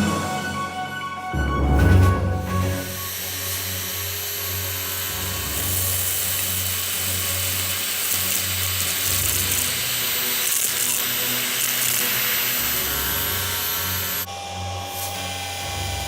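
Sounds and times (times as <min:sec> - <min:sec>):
background music: 0:00.0 - 0:16.0
handheld vacuum cleaner running: 0:03.0 - 0:16.0.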